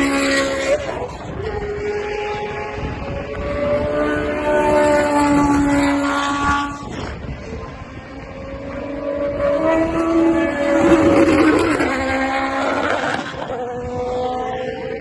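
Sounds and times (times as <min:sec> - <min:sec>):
racing car engines passing: 0:00.0 - 0:15.0.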